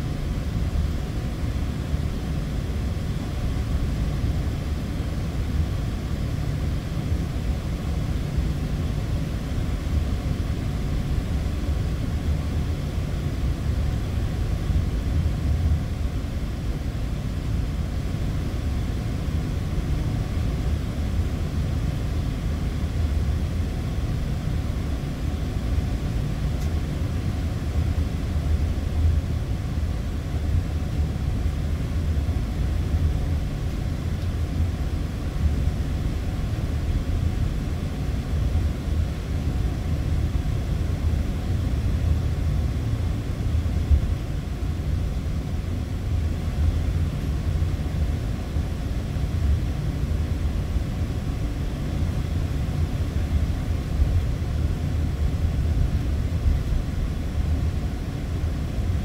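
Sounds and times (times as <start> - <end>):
low rumble of jet cabin: 0.0 - 59.0.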